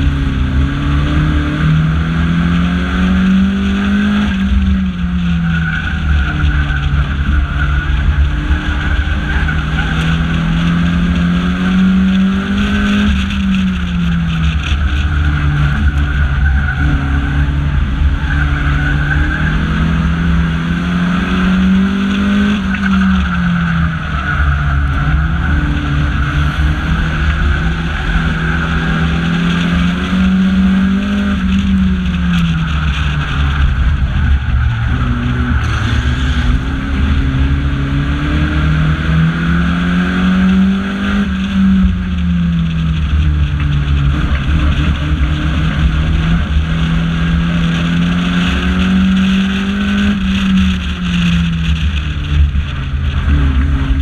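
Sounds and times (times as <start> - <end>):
car engine accelerating: 0.0 - 54.0
tyre and wind noise: 0.0 - 54.0.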